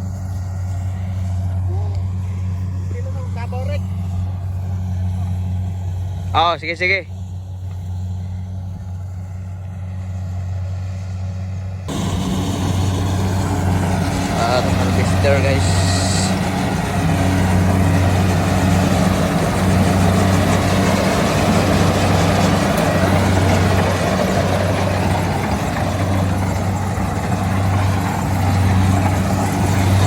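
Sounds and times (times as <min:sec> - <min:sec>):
combine harvester engine hum: 0:00.0 - 0:30.0.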